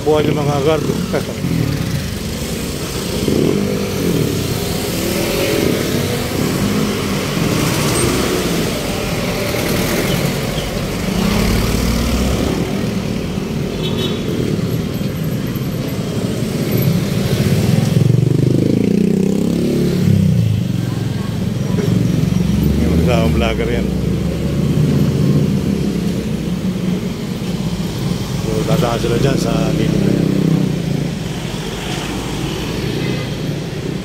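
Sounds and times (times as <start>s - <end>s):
road traffic noise: 0.0s - 34.0s
vehicle engines: 0.0s - 34.0s.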